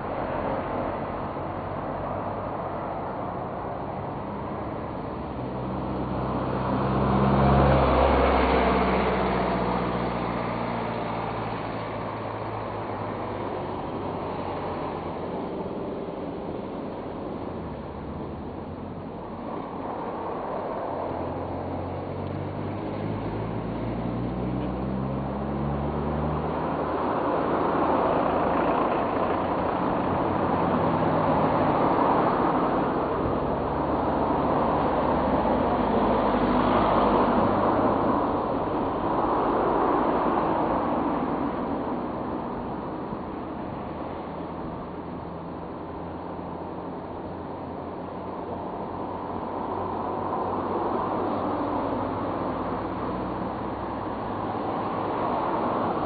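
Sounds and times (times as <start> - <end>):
low engine hum: 0.0 - 56.0
steady rushing noise: 0.0 - 56.0
vehicle passing by: 0.0 - 56.0.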